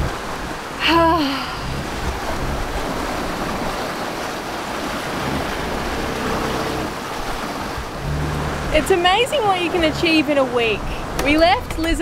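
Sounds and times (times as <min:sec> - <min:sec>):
choppy sea: 0:00.0 - 0:12.0
waves washing along hull: 0:00.0 - 0:12.0
wind: 0:00.0 - 0:12.0.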